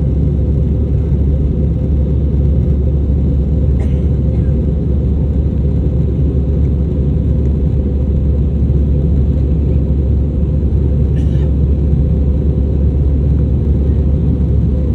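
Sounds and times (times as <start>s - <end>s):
jet airliner rumble during takeoff: 0.0s - 14.9s.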